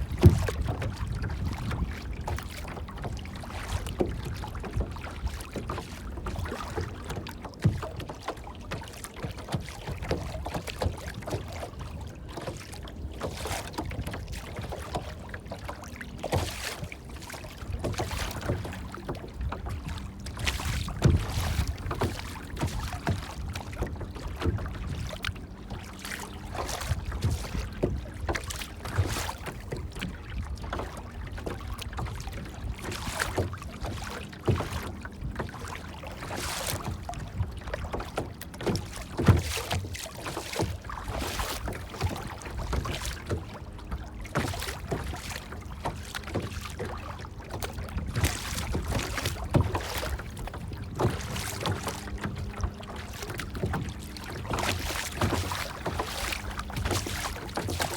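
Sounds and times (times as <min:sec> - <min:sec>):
water lapping and splashing: 0:00.0 - 0:57.9.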